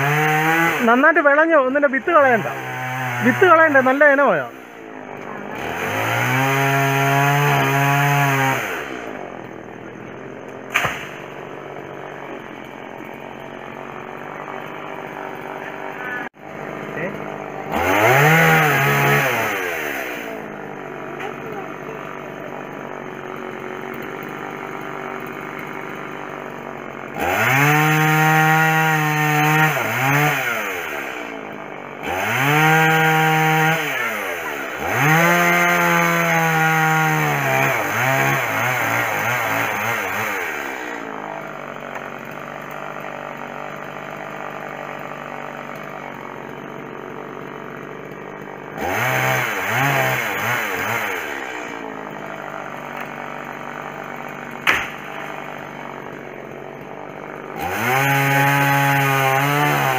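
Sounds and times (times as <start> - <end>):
chainsaw engine idling and revving: 0.0 - 59.9.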